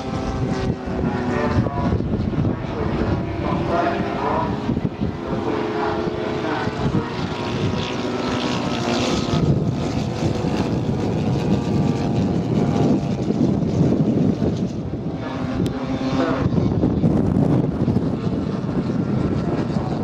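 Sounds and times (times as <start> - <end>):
model airplane propeller engines droning: 0.0 - 20.0.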